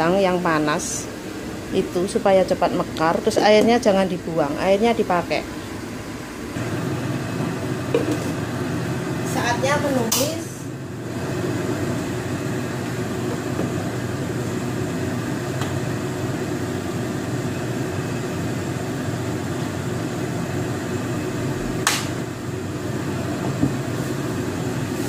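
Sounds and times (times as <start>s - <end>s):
fan humming: 0.0s - 25.0s.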